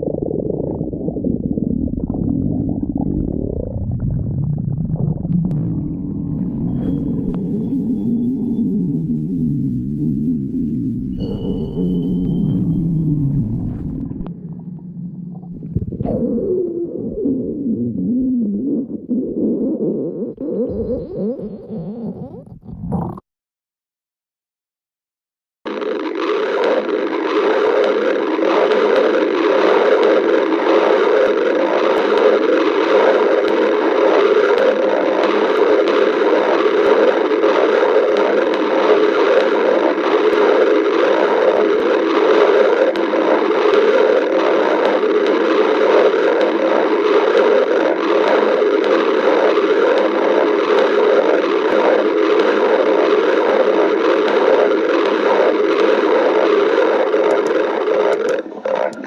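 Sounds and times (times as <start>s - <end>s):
stomach growling: 0.0s - 23.2s, 25.7s - 59.0s.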